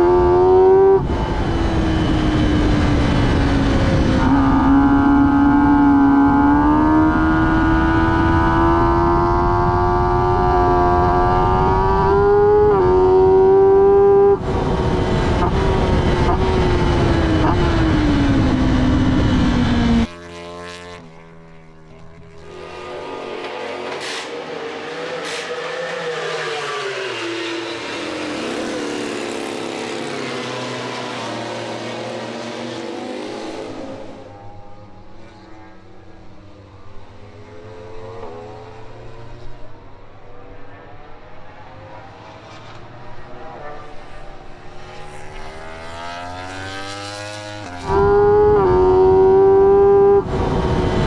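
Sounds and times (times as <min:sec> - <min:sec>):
racing motorcycle engines revving: 0:00.0 - 0:51.0.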